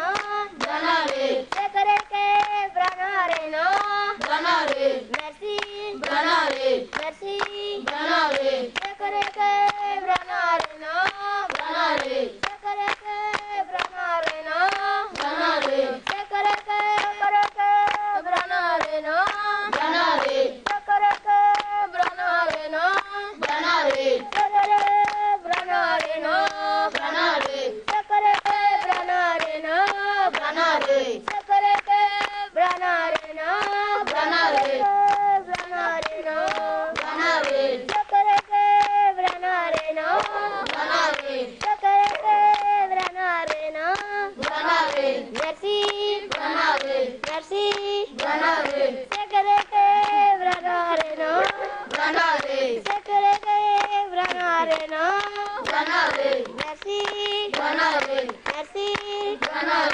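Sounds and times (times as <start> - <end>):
children singing a chant: 0.0 - 59.9
hand clapping: 0.0 - 59.9.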